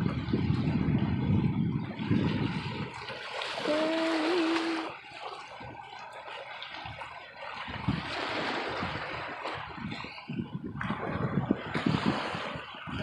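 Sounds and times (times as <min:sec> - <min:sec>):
water trickling and lapping: 0:00.0 - 0:13.0.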